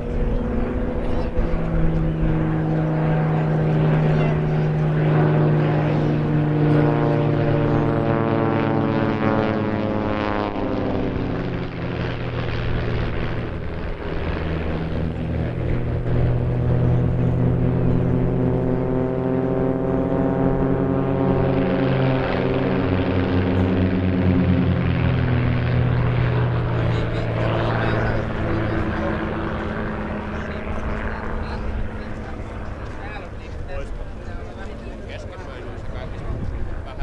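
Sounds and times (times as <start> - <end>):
propeller plane engines overhead: 0.0 - 37.0.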